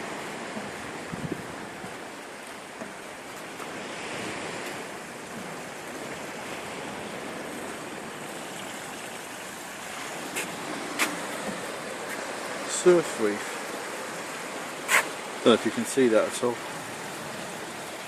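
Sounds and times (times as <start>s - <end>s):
sea waves breaking on beach: 0.0s - 18.0s.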